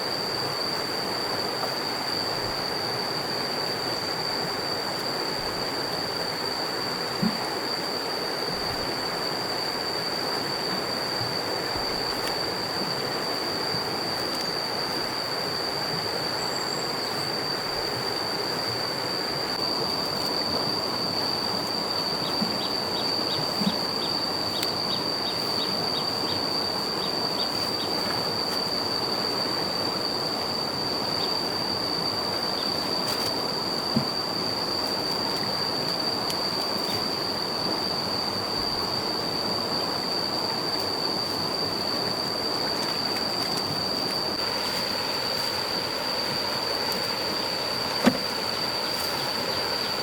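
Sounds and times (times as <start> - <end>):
thin high whine: 0.0 - 50.0.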